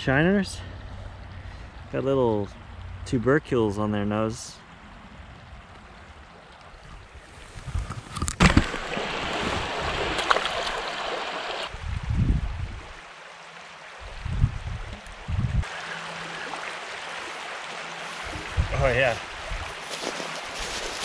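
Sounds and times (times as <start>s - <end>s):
creek water flowing: 0.0s - 3.9s, 4.5s - 21.0s.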